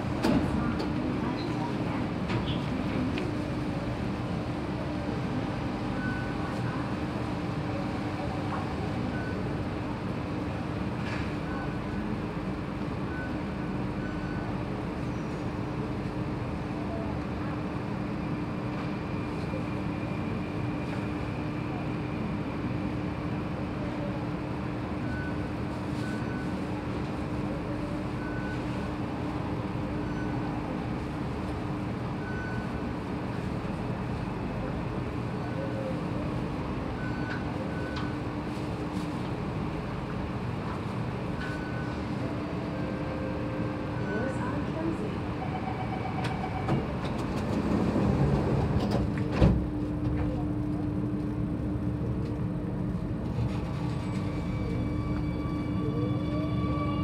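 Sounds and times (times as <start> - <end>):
station background noise: 0.0 - 57.0
train hum with low tone: 0.0 - 57.0.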